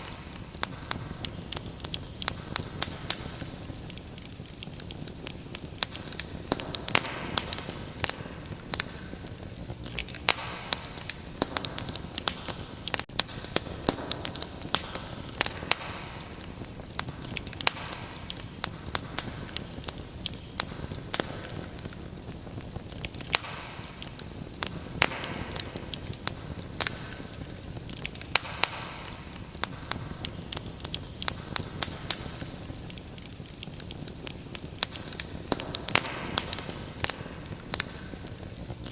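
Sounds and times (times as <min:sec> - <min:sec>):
fire hissing: 0:00.0 - 0:38.9
wood fire crackling: 0:00.0 - 0:38.9.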